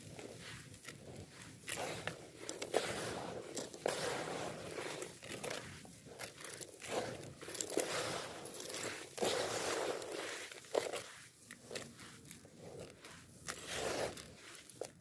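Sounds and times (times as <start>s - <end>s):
hands scooping dry grit: 0.0s - 15.0s.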